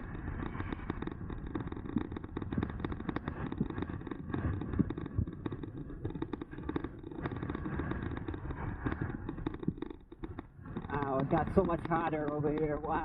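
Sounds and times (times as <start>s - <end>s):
electric bike rumbling and rattling: 0.0s - 13.0s
small knocks: 0.0s - 13.0s
wind on microphone: 0.0s - 13.0s.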